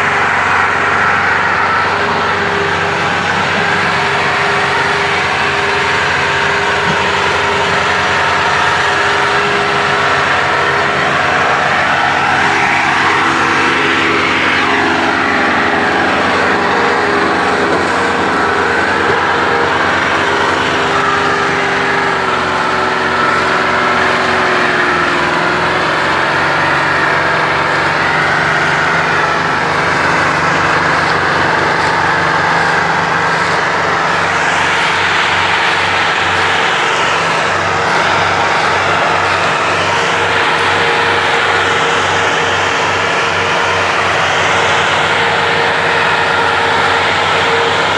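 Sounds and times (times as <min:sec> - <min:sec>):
tractor diesel engines under load: 0:00.0 - 0:47.9.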